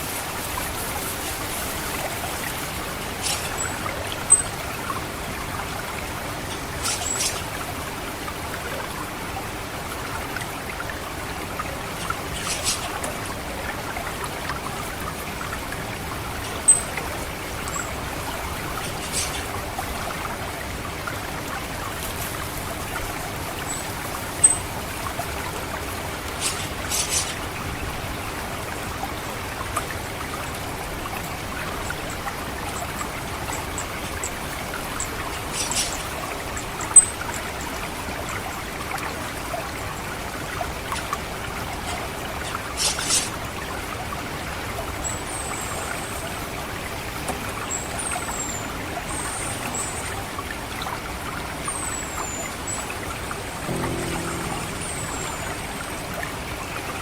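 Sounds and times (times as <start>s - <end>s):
trickling water: 0.0s - 57.0s.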